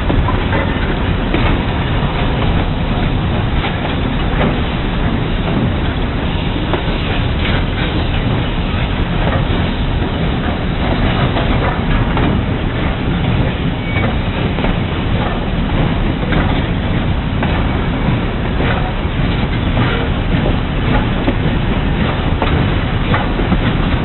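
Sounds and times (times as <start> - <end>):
steam train rumbling: 0.0 - 24.0
wheels clicking over rail joints: 0.0 - 24.0.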